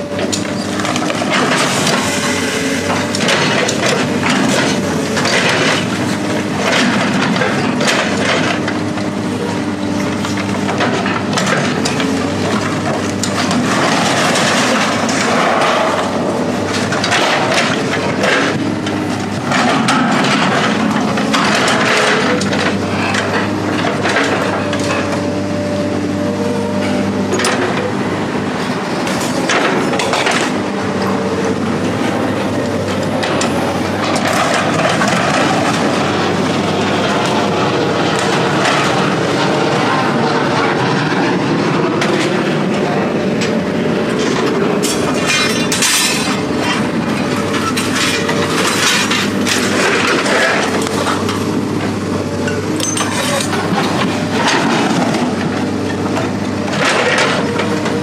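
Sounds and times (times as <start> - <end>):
heavy engine running: 0.0 - 58.0
metal clanks and knocks: 0.2 - 8.8, 10.0 - 25.2, 29.0 - 39.2, 42.0 - 58.0.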